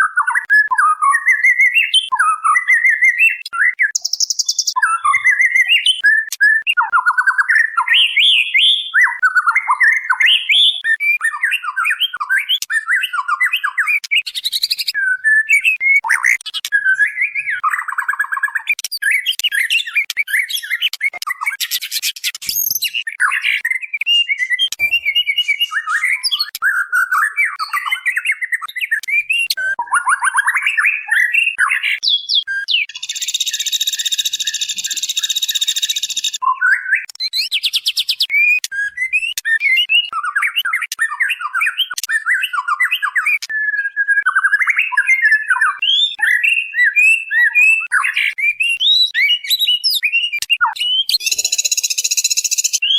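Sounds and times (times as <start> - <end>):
bird whistling and chattering: 0.0 - 52.9.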